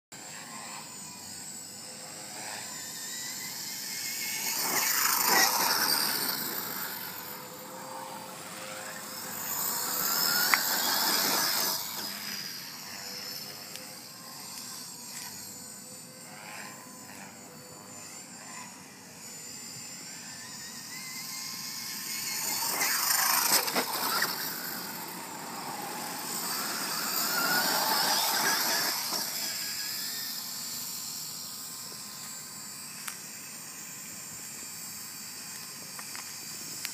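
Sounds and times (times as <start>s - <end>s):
electric motor and gears whining: 0.2s - 36.9s.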